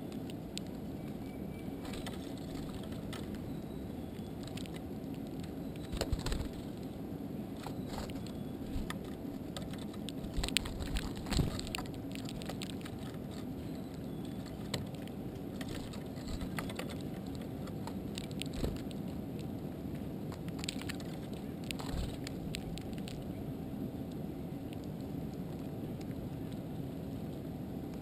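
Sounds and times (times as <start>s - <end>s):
birds pecking and hopping: 0.0s - 26.6s
steady low rumble: 0.0s - 28.0s.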